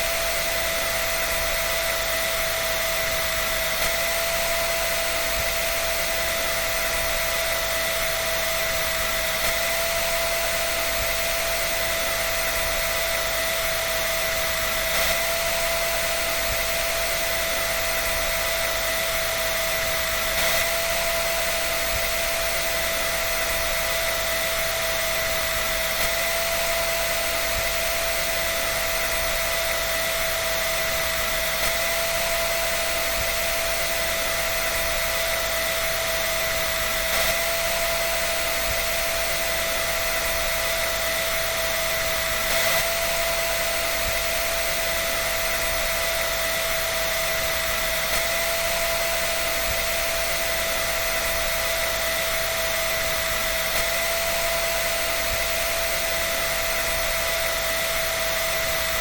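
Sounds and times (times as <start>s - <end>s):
electric dryer running: 0.0s - 59.0s.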